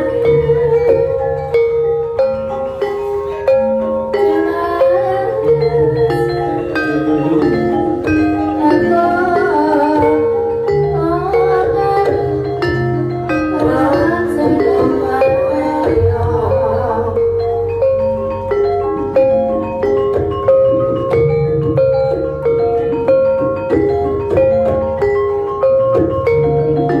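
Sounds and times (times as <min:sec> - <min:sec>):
gamelan gong-chimes melody: 0:00.0 - 0:27.0
drum strikes: 0:05.0 - 0:27.0.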